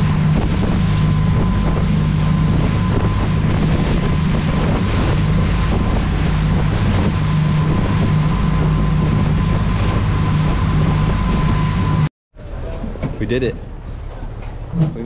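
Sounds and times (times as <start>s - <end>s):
wake rushing: 0.0s - 12.1s
wind buffeting microphone: 0.0s - 12.1s
boat engines running: 0.0s - 15.0s.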